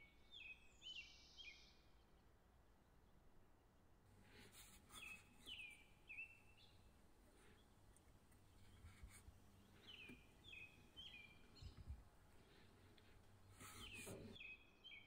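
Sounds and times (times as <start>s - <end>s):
bird chirps: 0.0s - 2.2s, 4.7s - 15.0s.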